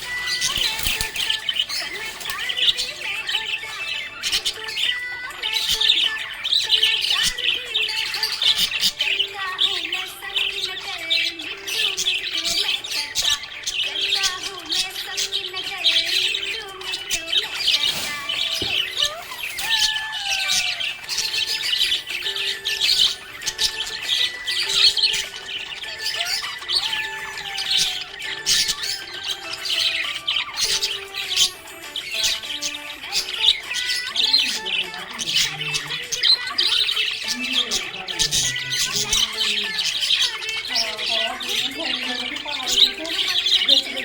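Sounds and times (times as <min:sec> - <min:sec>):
budgerigars chirping: 0:00.0 - 0:44.0.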